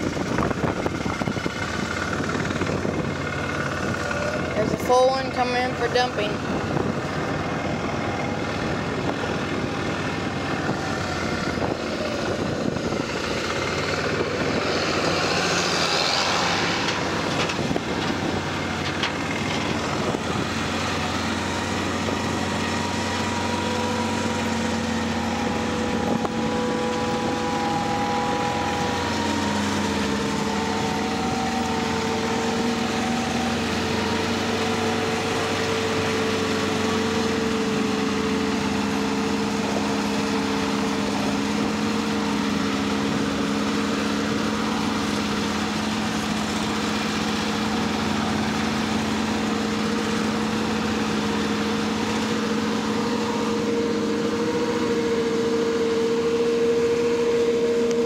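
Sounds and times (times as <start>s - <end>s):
machinery chopping corn: 0.0s - 58.0s
quad bike engine: 0.0s - 58.0s
steady whining tones: 0.0s - 58.0s.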